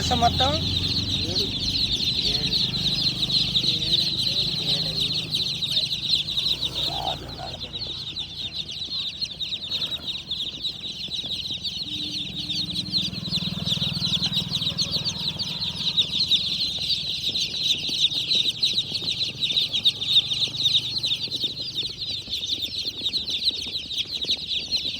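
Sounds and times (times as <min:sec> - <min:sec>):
baby chicks cheeping: 0:00.0 - 0:24.9.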